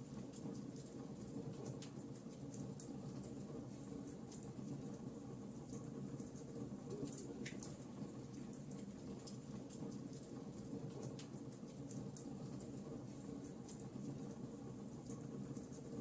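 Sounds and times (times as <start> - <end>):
wood fire crackling in a fireplace: 0.0 - 16.0.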